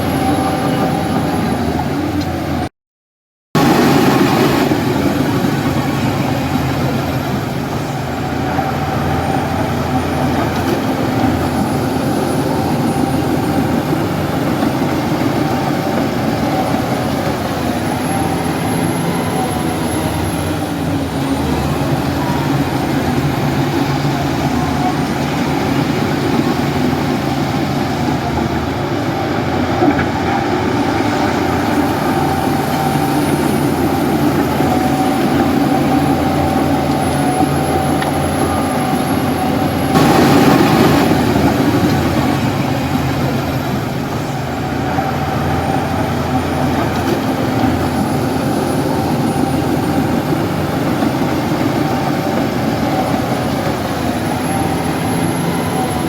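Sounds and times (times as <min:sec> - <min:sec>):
bulldozer diesel engine droning: 0:00.0 - 0:02.7, 0:03.6 - 0:56.0.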